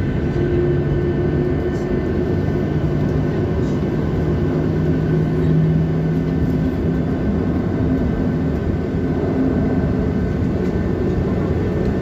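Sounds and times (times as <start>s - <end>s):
aircraft cabin jet engine rush: 0.0s - 12.0s.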